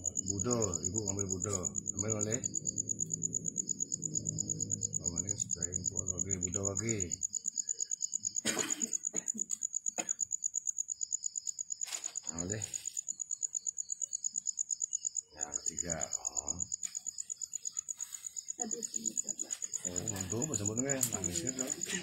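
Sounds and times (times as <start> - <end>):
insect chirping trill: 0.0 - 22.0.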